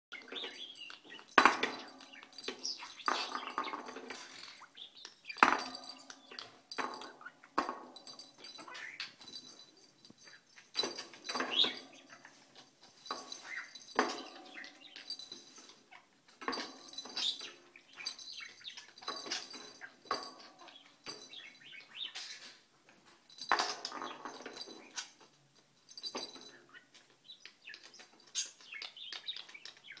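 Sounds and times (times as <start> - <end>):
toy balls clicking and clattering: 0.1 - 30.0.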